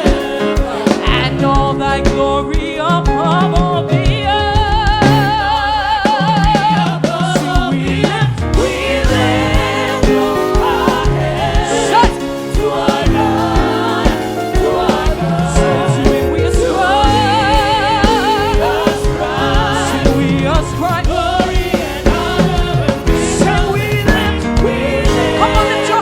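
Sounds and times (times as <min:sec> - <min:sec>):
band playing steady beat: 0:00.0 - 0:26.0
singers with vibrato: 0:00.0 - 0:26.0.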